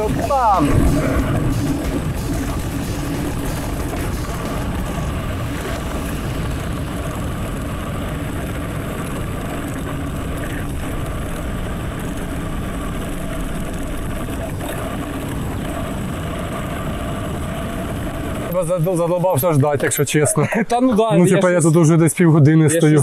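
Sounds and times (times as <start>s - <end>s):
wind rumble on microphone: 0.0s - 19.2s.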